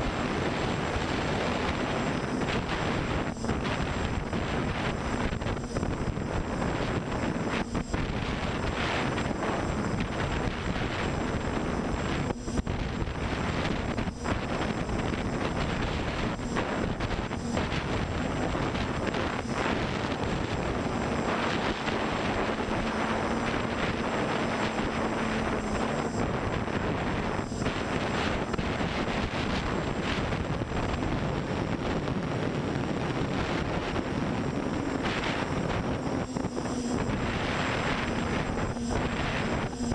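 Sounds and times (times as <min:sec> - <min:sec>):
drone motors and propellers: 0:00.0 - 0:39.9
wind rush on microphone: 0:00.0 - 0:39.9.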